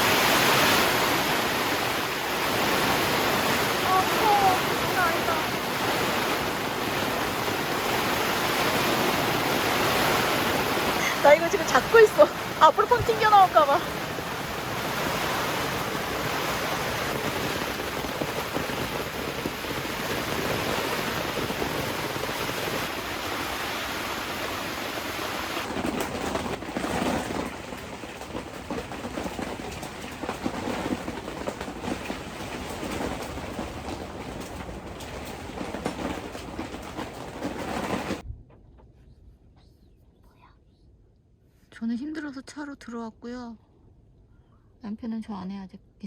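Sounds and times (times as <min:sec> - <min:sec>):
rain drops hitting: 0:00.0 - 0:38.2
torrential rain: 0:00.0 - 0:38.2.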